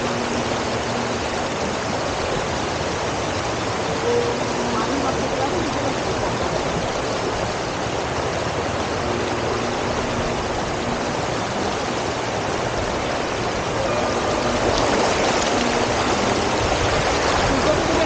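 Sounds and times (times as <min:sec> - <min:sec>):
river rushing over stones: 0:00.0 - 0:18.0.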